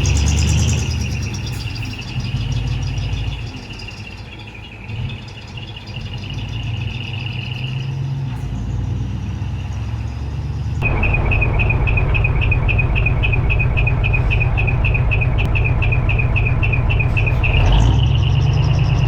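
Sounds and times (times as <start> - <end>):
diesel engine deep rumble: 0.0 - 19.0.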